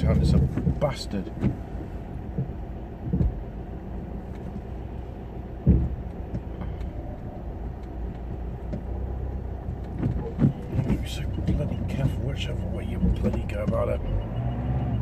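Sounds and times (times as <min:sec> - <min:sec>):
short low thumps: 0:00.0 - 0:07.4, 0:08.2 - 0:14.1
car engine rumbling: 0:00.0 - 0:15.0.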